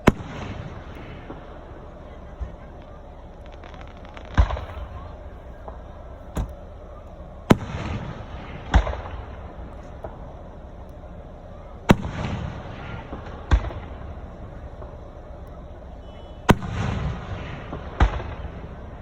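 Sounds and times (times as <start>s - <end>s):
deep firework boom: 0.0s - 19.0s
firework bangs: 0.0s - 19.0s
firework crackle: 0.0s - 19.0s.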